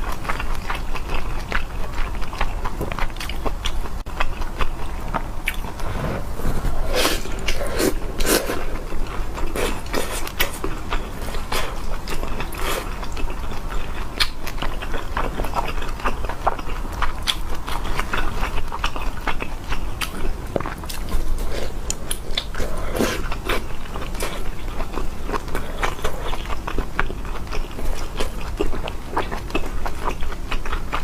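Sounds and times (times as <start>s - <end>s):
person biting and chewing food: 0.0s - 31.0s.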